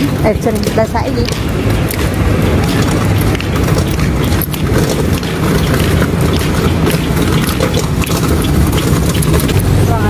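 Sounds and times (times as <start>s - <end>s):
cart rattling: 0.0s - 10.0s
hand truck wheels rumbling on asphalt: 0.0s - 10.0s.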